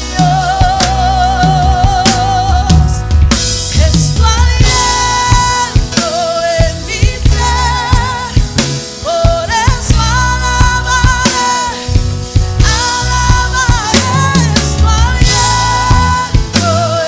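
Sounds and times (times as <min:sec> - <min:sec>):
band playing drums bass and keys: 0:00.0 - 0:17.0.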